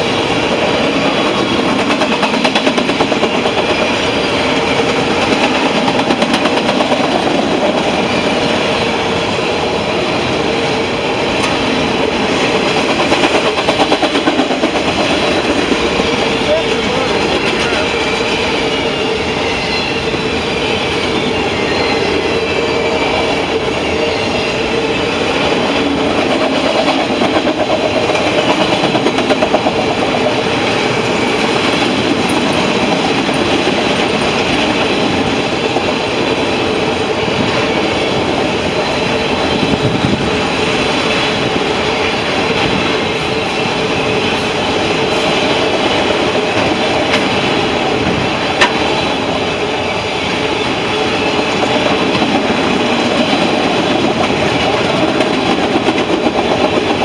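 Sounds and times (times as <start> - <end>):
clickety-clack over rail joints: 0.0 - 57.0
freight train wheels on rails: 0.0 - 57.0.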